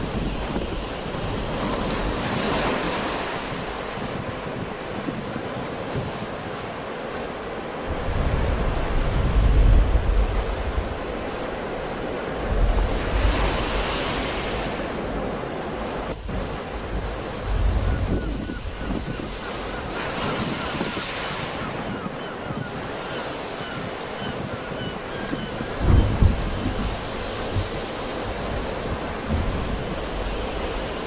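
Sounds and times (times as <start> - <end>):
sea waves breaking on shore: 0.0 - 31.0.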